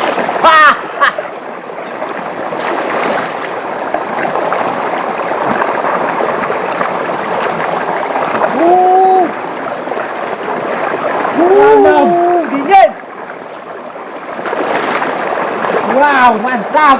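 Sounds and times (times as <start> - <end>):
river water rushing: 0.0 - 16.9.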